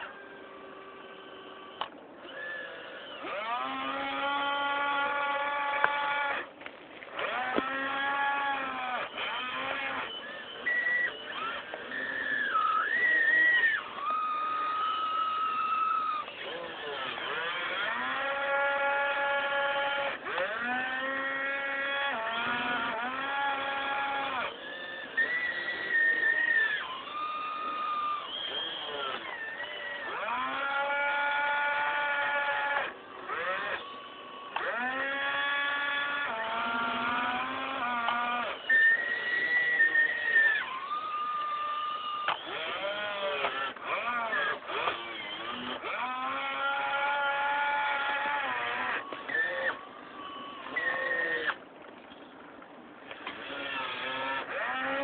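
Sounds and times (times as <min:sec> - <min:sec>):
higher thinner motor whine: 0:00.0 - 0:55.0
model excavator motors whining: 0:00.0 - 0:55.0.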